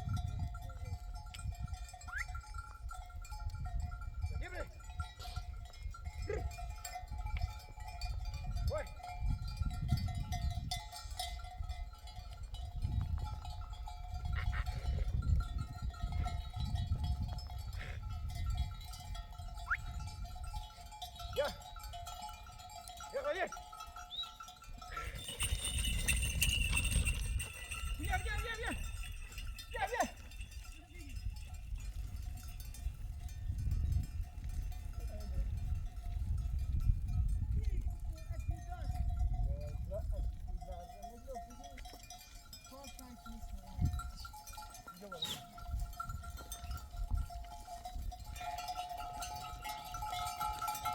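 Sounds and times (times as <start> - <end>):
sheep bells ringing and clinking: 0.0 - 50.9.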